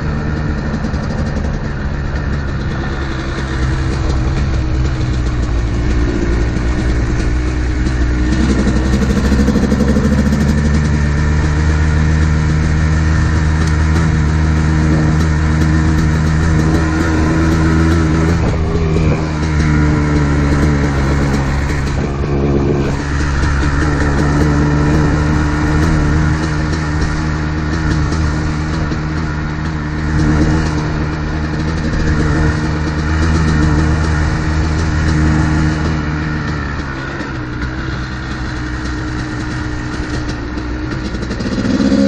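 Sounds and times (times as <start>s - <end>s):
two-stroke dirt bike engine: 0.0s - 42.0s.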